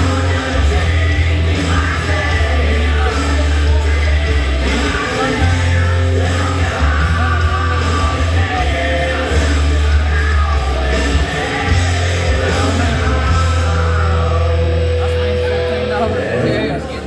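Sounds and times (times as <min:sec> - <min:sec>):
heavy bass line: 0:00.0 - 0:17.0
loud rock music: 0:00.0 - 0:17.0
person singing: 0:00.0 - 0:17.0.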